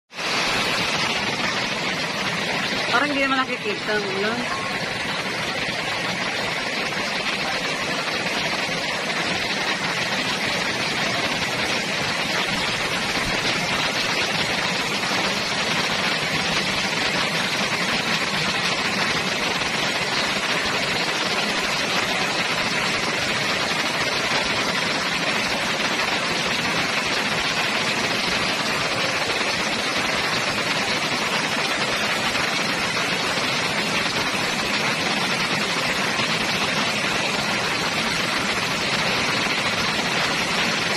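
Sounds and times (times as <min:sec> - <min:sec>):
heavy rain pouring: 0:00.1 - 0:40.9.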